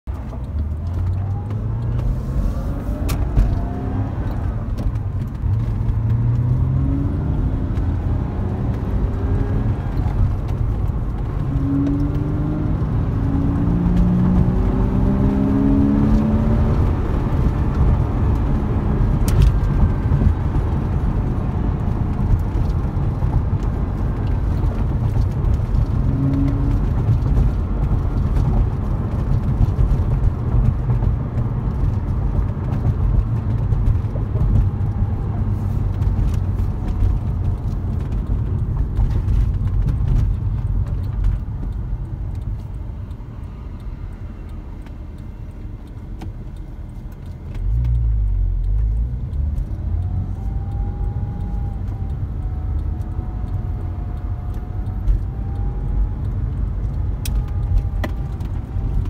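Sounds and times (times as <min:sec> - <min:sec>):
low road rumble: 0:00.0 - 0:59.0
car engine accelerating: 0:00.1 - 0:59.0.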